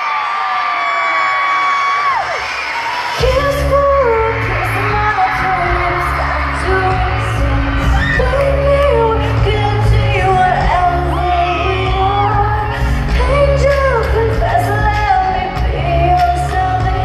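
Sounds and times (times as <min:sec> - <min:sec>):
live pop band: 0:00.0 - 0:17.0
woman singing: 0:03.2 - 0:17.0.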